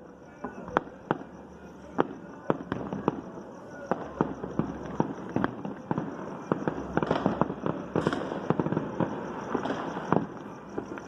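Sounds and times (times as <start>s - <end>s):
fireworks and firecrackers banging: 0.0s - 11.0s.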